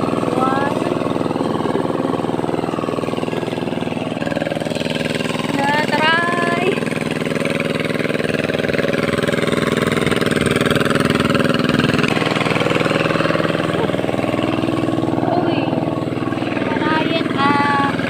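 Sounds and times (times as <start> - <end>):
tractor engine chugging: 0.0 - 18.0.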